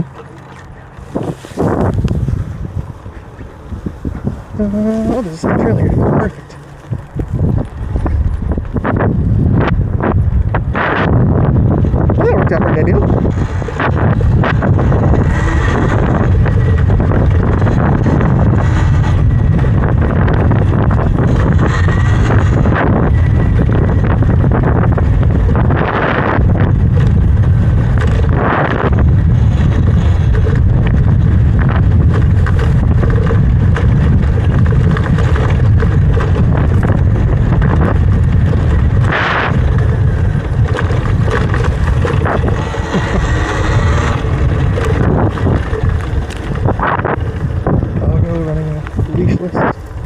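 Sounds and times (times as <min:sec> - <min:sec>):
electric dirt bike running: 0:00.0 - 0:50.0
wind buffeting microphone: 0:00.0 - 0:50.0.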